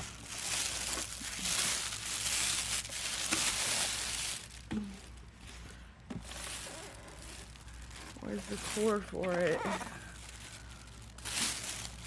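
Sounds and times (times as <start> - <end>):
plastic and cardboard rustling: 0.0 - 12.0.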